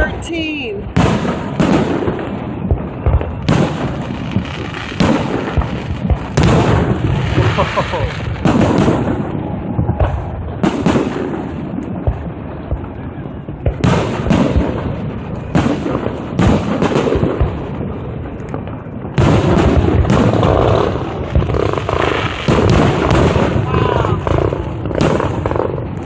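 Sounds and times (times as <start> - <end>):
fireworks bursting and booming: 0.0 - 26.0.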